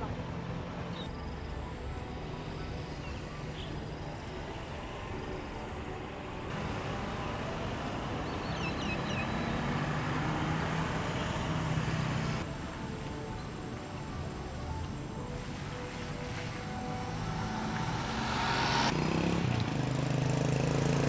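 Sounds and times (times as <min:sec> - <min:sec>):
outdoor ambient hum: 0:00.0 - 0:19.9.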